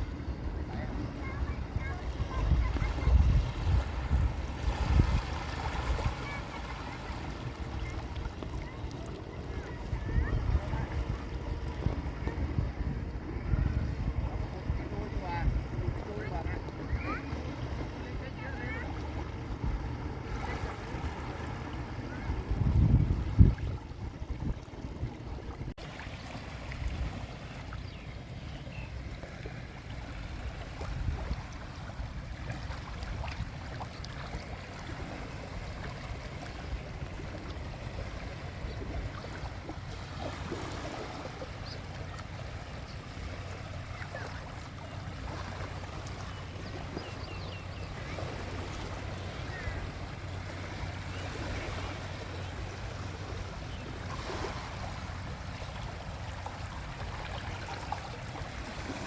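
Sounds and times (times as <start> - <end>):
small waves lapping on shore: 0.0 - 59.0.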